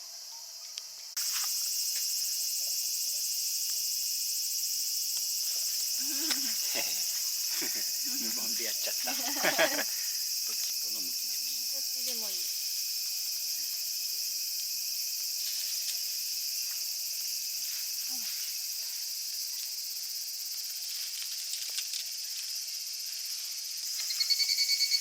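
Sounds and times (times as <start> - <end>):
cicada pulsing call: 0.0 - 25.0
high-pitched insect chorus: 0.0 - 25.0.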